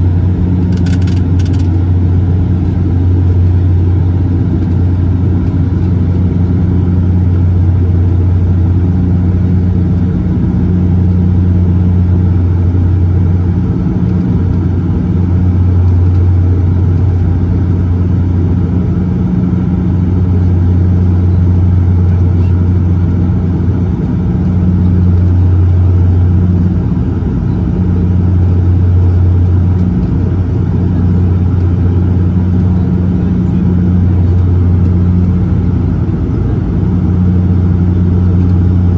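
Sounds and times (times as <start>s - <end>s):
turboprop engine drone: 0.0s - 38.9s.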